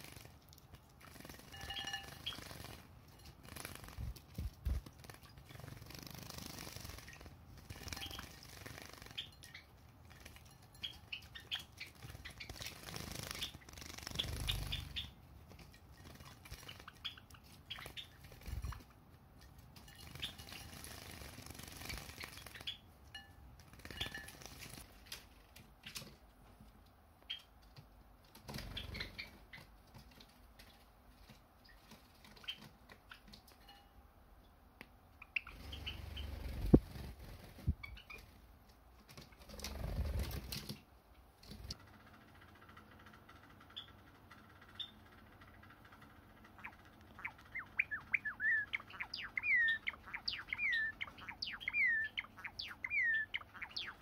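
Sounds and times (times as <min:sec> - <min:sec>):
wings fluttering and splashing: 0:00.0 - 0:26.3, 0:27.3 - 0:33.8, 0:35.2 - 0:54.0.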